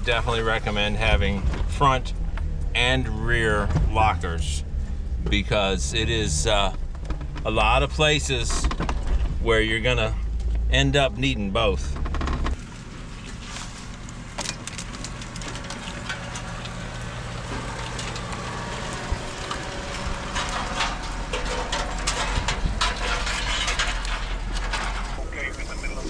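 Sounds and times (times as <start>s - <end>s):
engine running low: 0.0s - 26.0s.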